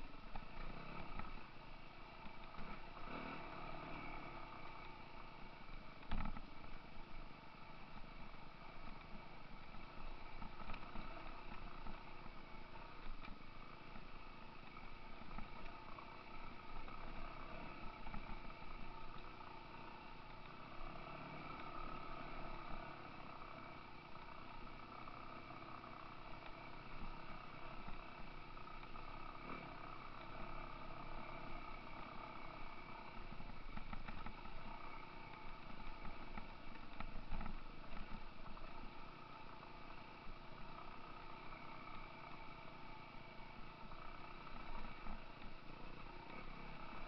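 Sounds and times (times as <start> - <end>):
dirt bike engines running: 0.0 - 47.0.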